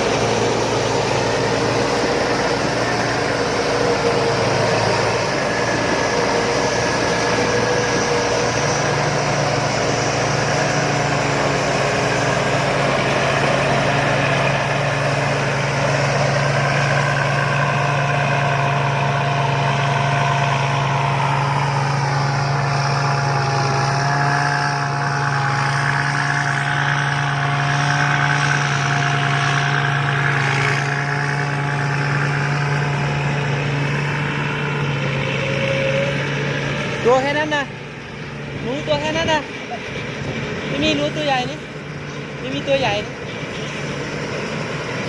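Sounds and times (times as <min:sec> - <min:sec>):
combine harvester engine running: 0:00.0 - 0:45.0.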